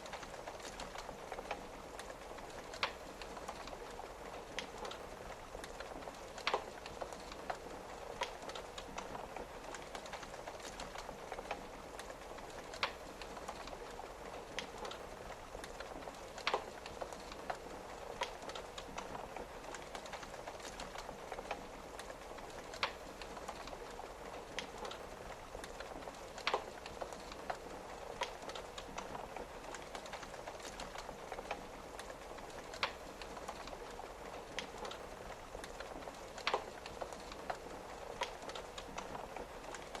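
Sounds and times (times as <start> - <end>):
rain tapping on window: 0.0 - 40.0
wood fire crackling: 0.0 - 40.0.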